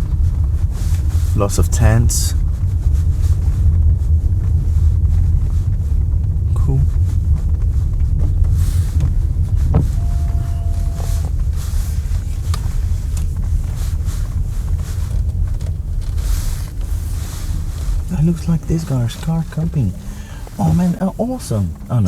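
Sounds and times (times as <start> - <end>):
car engine and tyres rumble: 0.0 - 22.0.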